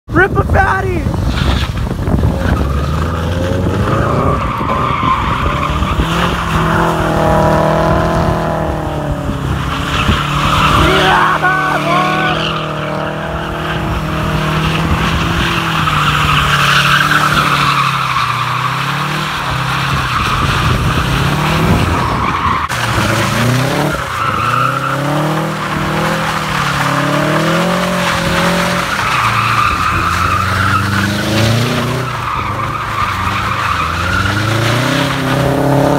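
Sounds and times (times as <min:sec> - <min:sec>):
tyres squealing on asphalt: 0:00.2 - 0:35.9
car engine revving: 0:01.0 - 0:35.9.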